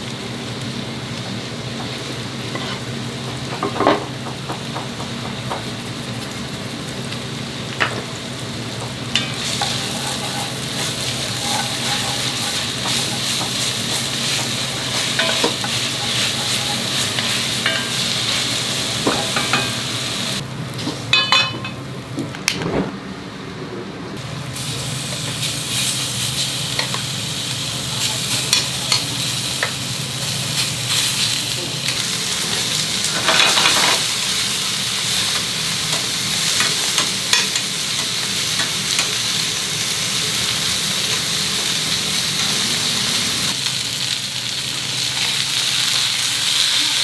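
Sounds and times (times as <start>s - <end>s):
food sizzling in frying pan: 0.0s - 22.1s, 24.2s - 47.0s.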